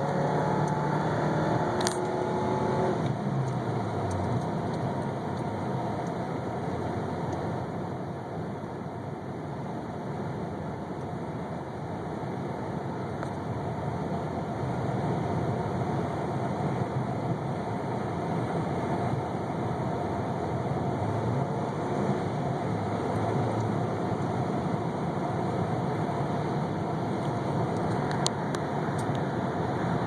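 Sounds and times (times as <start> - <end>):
car engine running rough: 0.0 - 30.0.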